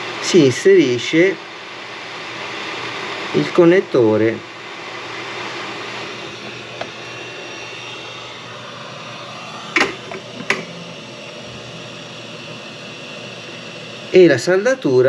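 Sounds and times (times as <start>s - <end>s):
hot-air station blowing air: 0.0s - 15.0s.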